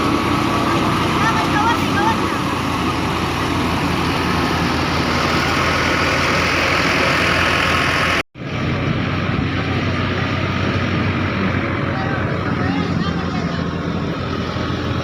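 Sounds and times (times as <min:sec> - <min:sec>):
heavy machinery engine droning: 0:00.0 - 0:15.0.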